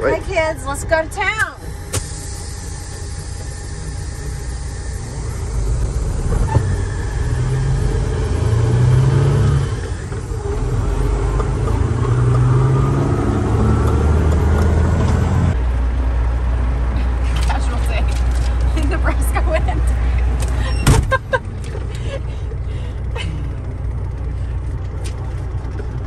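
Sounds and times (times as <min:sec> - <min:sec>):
truck engine accelerating: 0:00.0 - 0:26.0.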